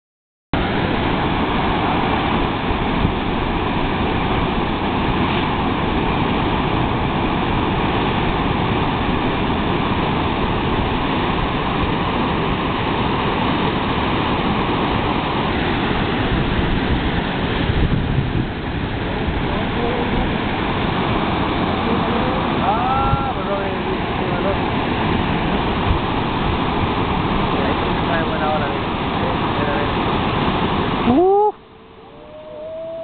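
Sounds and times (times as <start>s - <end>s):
ocean waves breaking: 0.6s - 33.0s.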